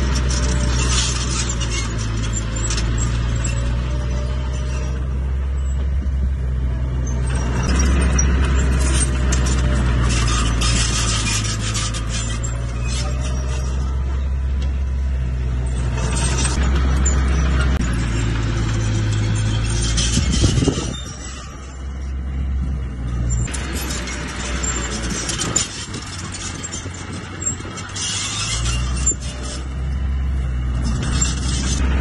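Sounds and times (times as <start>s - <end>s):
rocks grinding and clattering: 0.0s - 5.9s, 7.1s - 14.8s, 15.4s - 32.0s
bulldozer diesel engine under load: 0.0s - 32.0s.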